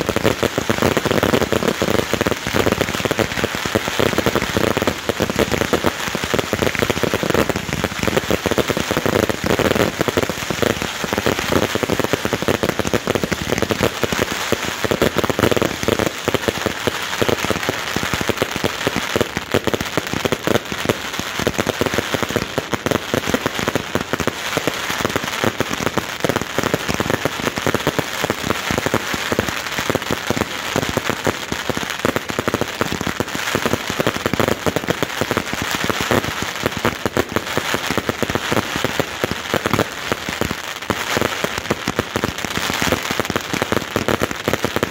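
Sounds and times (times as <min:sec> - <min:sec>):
firework crackle of small pops: 0:00.0 - 0:44.9.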